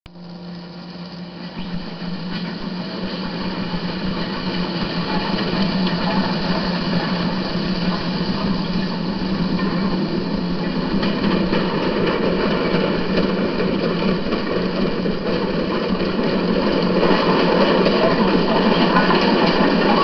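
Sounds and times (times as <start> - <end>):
machine running with low hum: 0.1 - 20.0.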